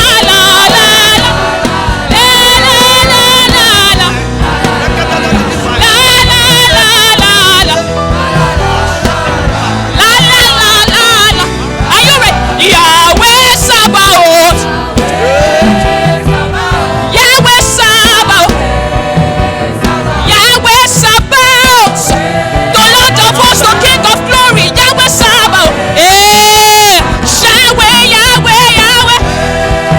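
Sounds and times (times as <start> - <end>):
band playing: 0.0 - 29.9
choir singing: 0.0 - 29.9
steady drum beat: 0.0 - 29.9.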